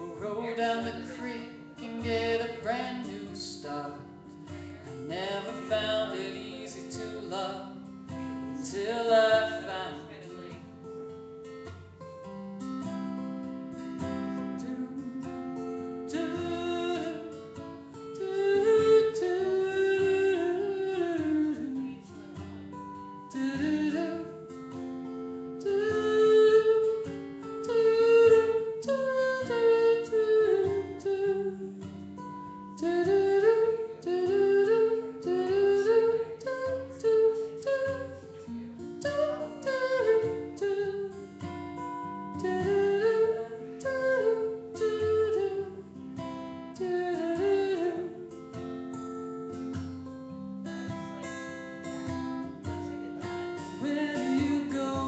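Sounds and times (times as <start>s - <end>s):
person singing into microphone: 0.0s - 4.1s, 4.9s - 10.6s, 14.4s - 22.4s, 23.2s - 24.6s, 25.6s - 48.8s, 52.6s - 55.0s
acoustic guitar: 0.0s - 55.0s.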